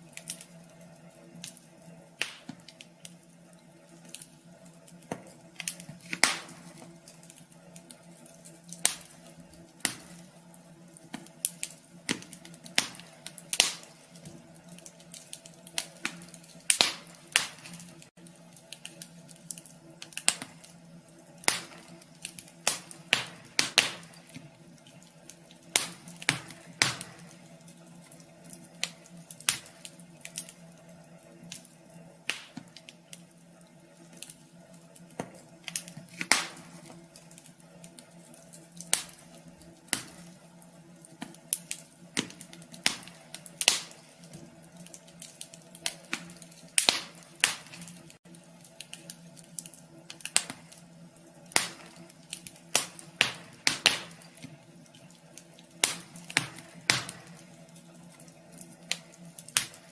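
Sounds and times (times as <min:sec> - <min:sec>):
faint steady hum: 0:00.0 - 0:59.9
wood fire crackling in stove: 0:00.0 - 0:59.9.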